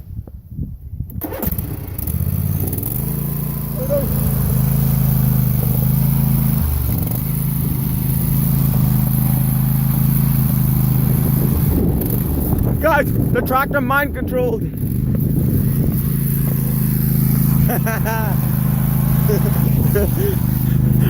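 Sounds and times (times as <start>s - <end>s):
lawn tractor engine running: 1.1s - 21.0s.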